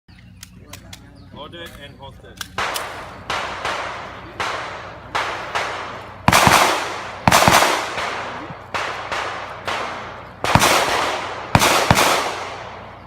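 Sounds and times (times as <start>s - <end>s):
pistol shots echoing: 2.4s - 13.0s.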